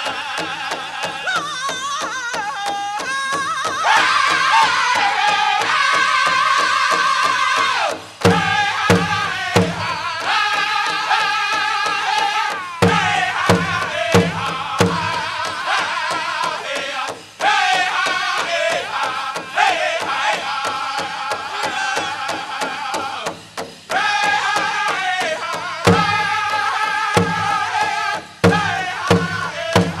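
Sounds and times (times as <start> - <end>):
large drum beat: 0.0 - 30.0
singers in unison: 0.0 - 30.0.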